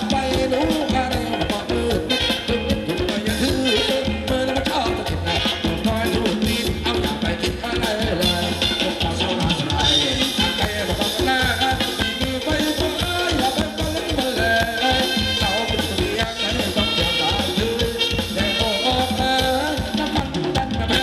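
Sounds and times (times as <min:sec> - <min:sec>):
fast drum beat: 0:00.0 - 0:21.0
melodic lead line: 0:00.0 - 0:21.0.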